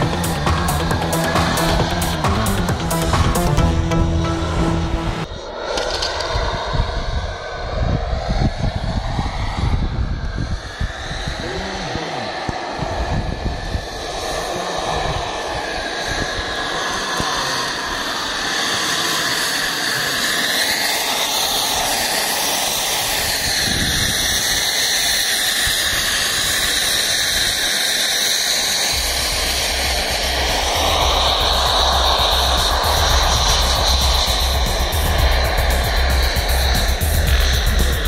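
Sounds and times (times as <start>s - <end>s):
model jet turbine running: 0.0s - 3.6s, 5.2s - 38.0s.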